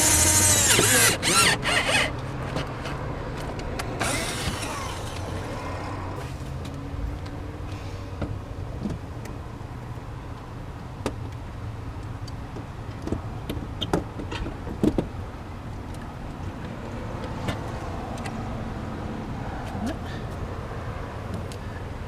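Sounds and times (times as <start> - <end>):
traffic hum: 0.0 - 22.0.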